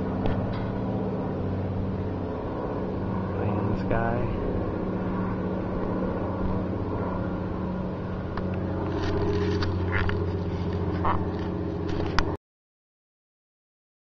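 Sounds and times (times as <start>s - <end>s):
distant engine droning: 0.0s - 12.4s.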